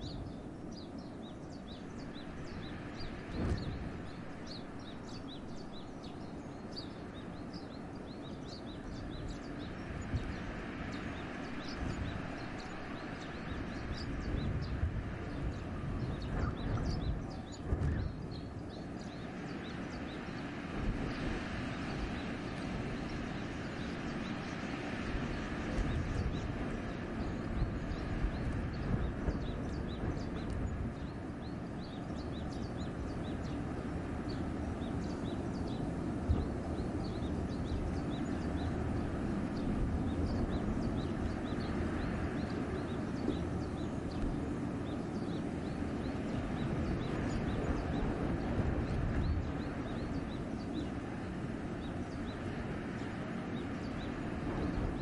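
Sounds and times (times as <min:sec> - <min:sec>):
small birds chirping: 0:00.0 - 0:55.0
wind blowing through trees: 0:00.0 - 0:55.0.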